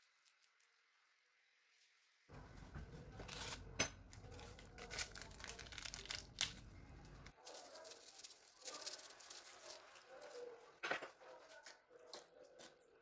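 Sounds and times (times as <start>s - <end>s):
crinkling and rustling handling: 2.3s - 13.0s.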